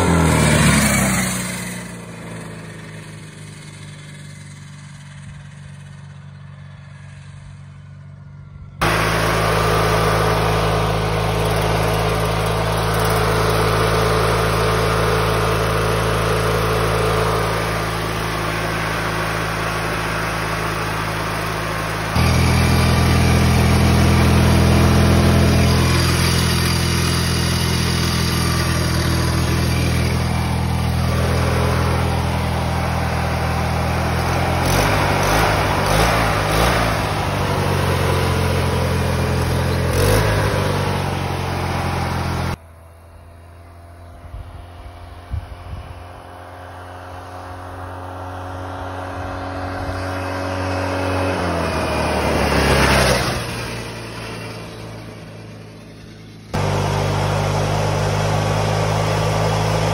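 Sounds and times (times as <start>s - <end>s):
distant small engine: 0.0s - 59.9s
riding mower engine running: 0.0s - 59.9s.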